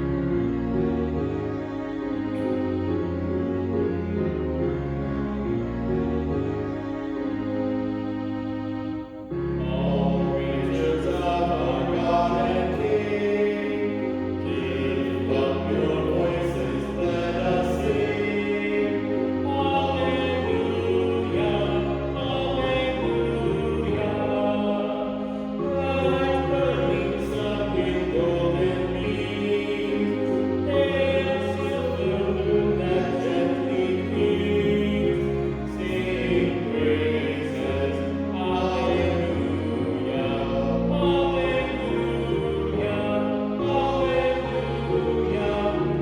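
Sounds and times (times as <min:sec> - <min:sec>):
choir singing sustained chords: 0:00.0 - 0:46.0.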